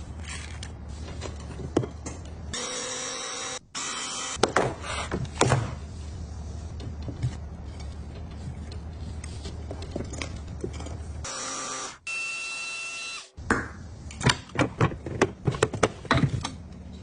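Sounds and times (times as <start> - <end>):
steady low hum: 0.0 - 11.3, 13.4 - 17.0.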